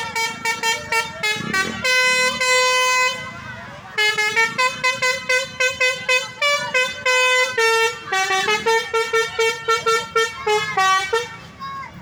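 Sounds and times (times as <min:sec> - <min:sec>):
multi-tone musical horns: 0:00.0 - 0:11.5.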